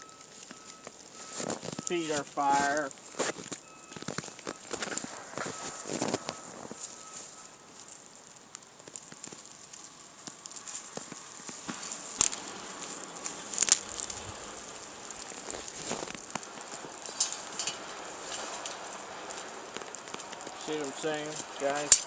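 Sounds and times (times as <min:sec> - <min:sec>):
loud fire snaps: 0:00.0 - 0:22.0
wood fire crackling: 0:00.0 - 0:22.0.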